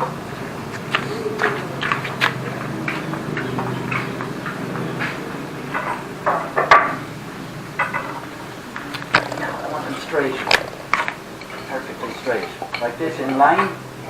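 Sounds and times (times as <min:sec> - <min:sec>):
wooden parts knocking and clicking: 0:01.0 - 0:07.0, 0:07.8 - 0:13.8.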